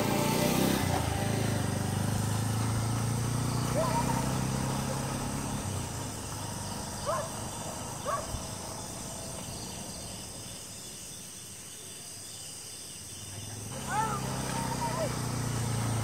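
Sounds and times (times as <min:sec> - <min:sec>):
motorcycle engine: 0:00.0 - 0:11.0, 0:13.3 - 0:16.0
crickets chirring: 0:00.0 - 0:16.0
short chirping calls: 0:03.0 - 0:15.9.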